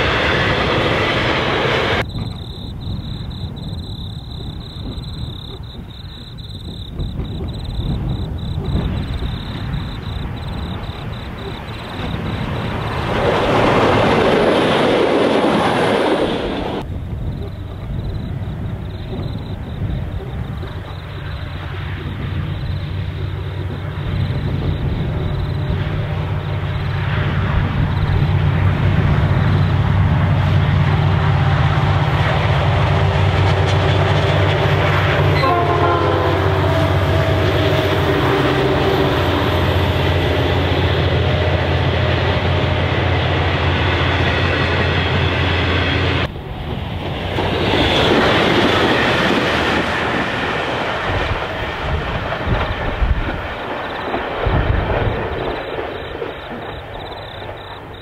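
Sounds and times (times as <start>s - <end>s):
diesel locomotive engines humming: 0.0s - 58.0s
freight wagons rumbling over rails: 0.0s - 58.0s.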